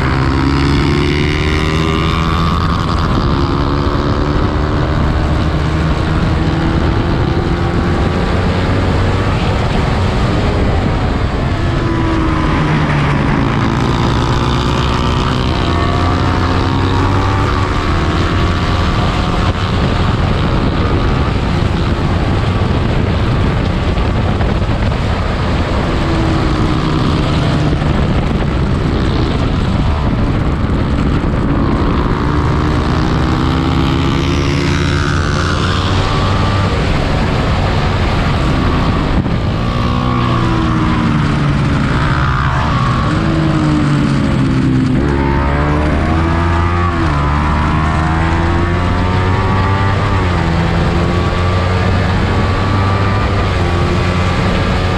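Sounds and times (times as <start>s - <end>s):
racing motorcycle engine revving: 0.0s - 54.9s.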